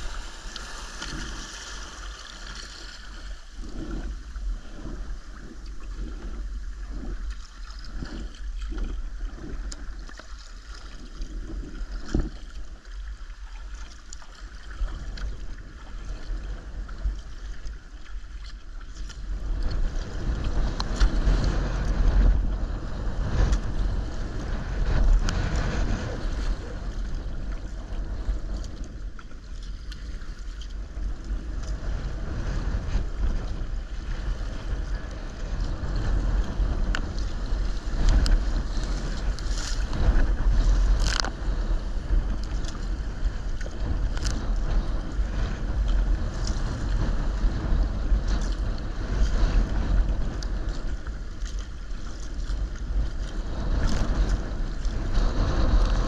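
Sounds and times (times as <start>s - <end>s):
choppy water splashing: 0.0s - 56.0s
paddle splashes: 0.0s - 56.0s
wind rumbling on microphone: 0.0s - 56.0s.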